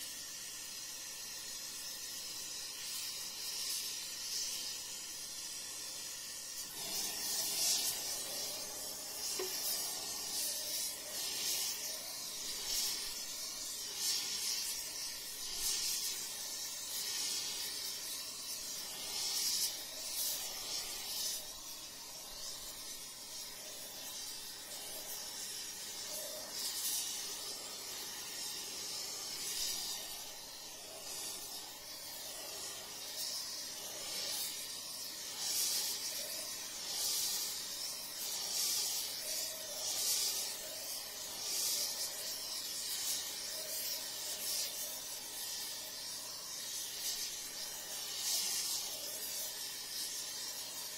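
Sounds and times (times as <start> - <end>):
torch flame hissing: 0.0 - 50.9.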